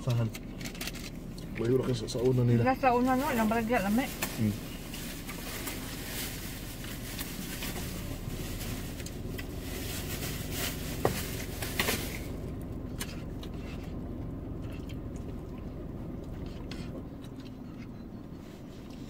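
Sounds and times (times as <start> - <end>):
car low hum: 0.0 - 19.0.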